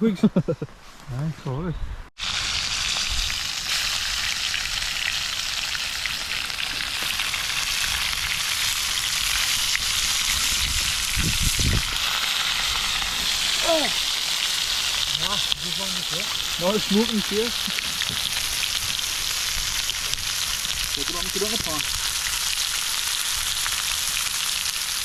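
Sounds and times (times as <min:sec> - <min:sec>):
food sizzling in a pan: 0:02.2 - 0:25.0.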